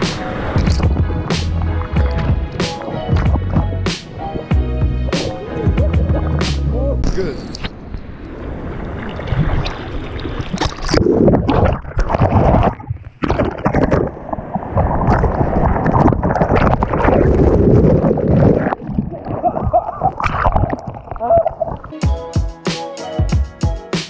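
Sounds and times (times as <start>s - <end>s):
water rushing and gurgling: 0.0s - 22.0s
wave breaking: 0.0s - 22.0s.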